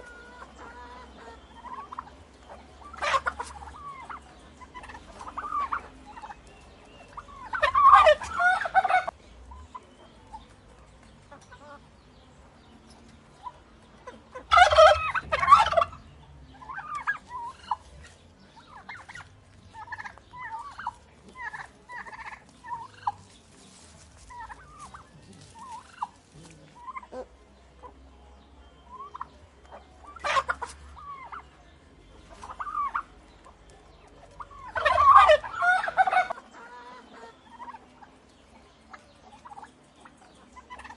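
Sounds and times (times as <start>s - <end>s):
turkey gobbling: 0.0s - 10.6s, 11.3s - 11.8s, 13.3s - 28.0s, 28.8s - 31.6s, 32.2s - 40.9s.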